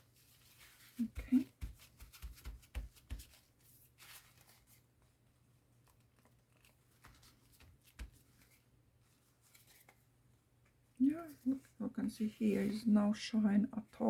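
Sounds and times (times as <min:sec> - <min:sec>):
paper tapping and brushing: 0:00.0 - 0:05.2, 0:05.8 - 0:12.9.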